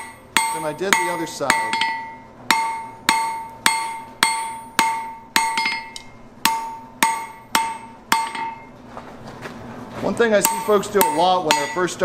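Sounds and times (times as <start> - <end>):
hammer striking steel on anvil: 0.0 - 8.7, 10.4 - 12.0.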